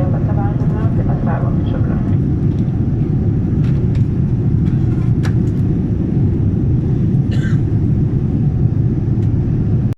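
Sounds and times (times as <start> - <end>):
jet engine cabin rumble: 0.0 - 9.9.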